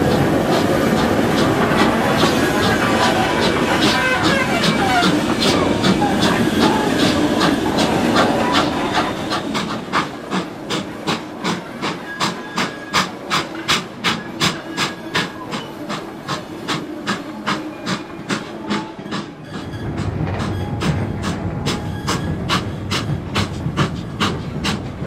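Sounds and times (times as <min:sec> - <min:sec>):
steam hissing: 0:00.0 - 0:25.0
steam locomotive exhaust beats: 0:00.0 - 0:25.0.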